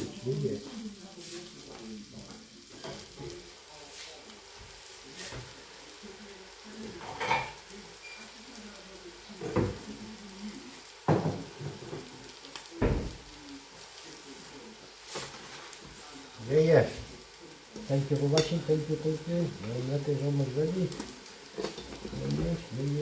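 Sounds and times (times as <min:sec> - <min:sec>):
food sizzling in frying pans: 0:00.0 - 0:23.0.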